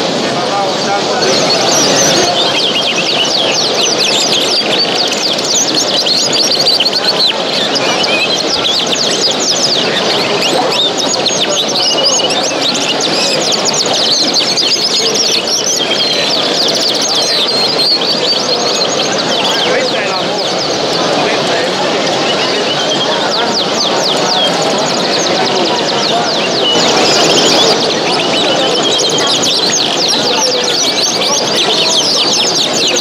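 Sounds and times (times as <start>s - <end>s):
cage birds chirping: 0.0s - 33.0s
crowd murmur in a hall: 0.0s - 33.0s.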